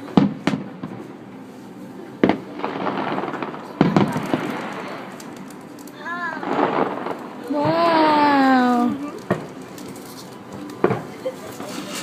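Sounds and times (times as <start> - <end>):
fireworks bangs: 0.0 - 1.2, 2.2 - 9.6, 10.8 - 12.0
fireworks crackle: 0.0 - 12.0.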